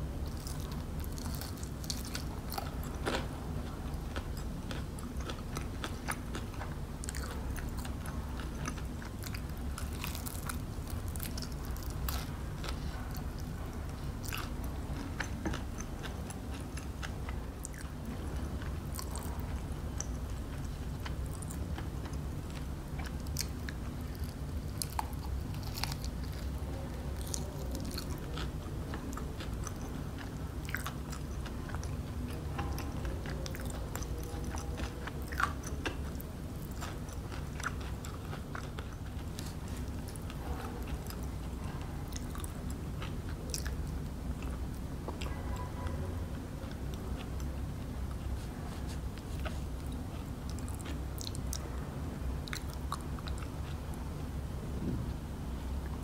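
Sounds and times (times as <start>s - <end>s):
chewing crispy fried chicken: 0.0s - 54.4s.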